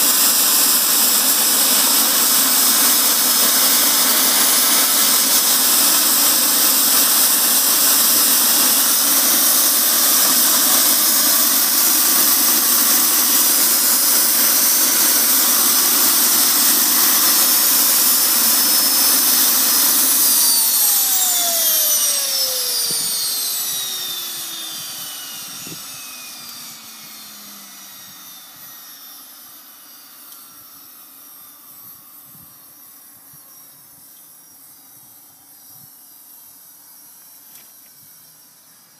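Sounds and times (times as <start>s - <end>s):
jet engine whine: 0.0s - 38.9s.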